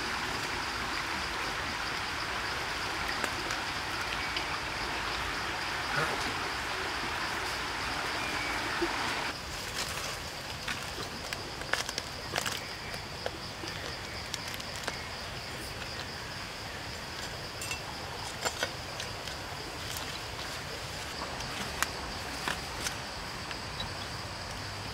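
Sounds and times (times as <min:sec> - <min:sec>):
insect drone: 0:00.0 - 0:24.9.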